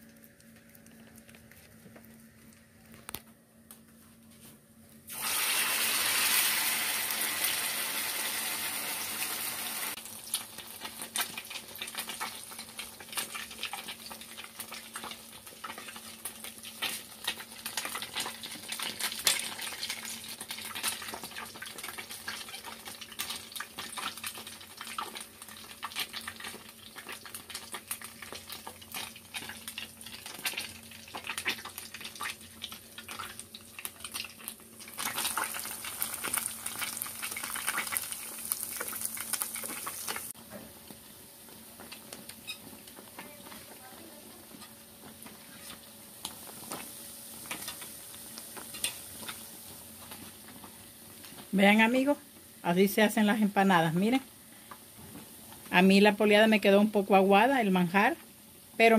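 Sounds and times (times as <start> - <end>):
frying oil crackling: 0.0 - 3.3, 5.0 - 58.9.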